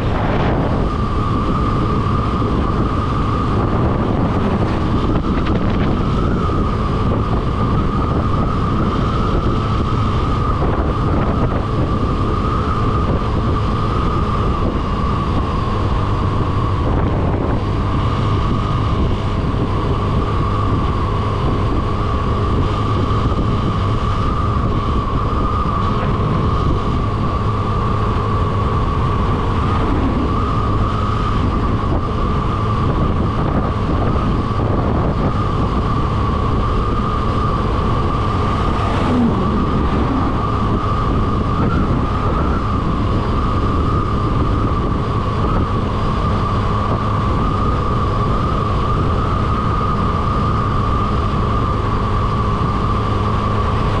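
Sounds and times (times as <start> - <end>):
motorcycle engine drone: 0.0 - 54.0
wind noise on microphone: 0.0 - 54.0.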